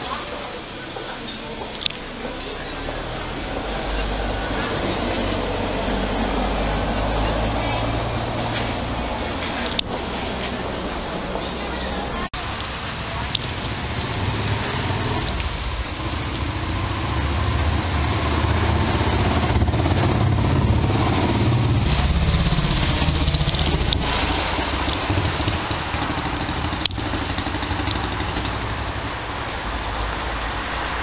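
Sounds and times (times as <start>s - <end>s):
street noise: 0.0s - 31.0s
vehicle engine rumble passing: 0.0s - 31.0s.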